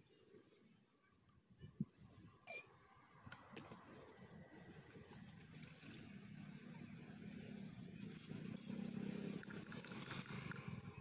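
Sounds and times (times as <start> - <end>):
distant engine hum: 1.7 - 11.0.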